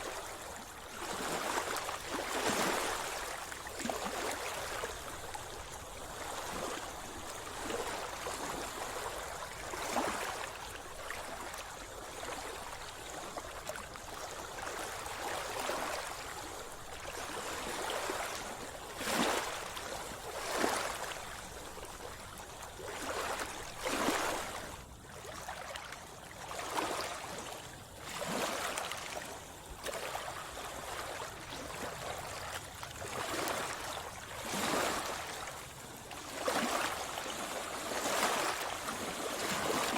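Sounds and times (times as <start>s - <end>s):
steady wash of water: 0.0s - 39.9s.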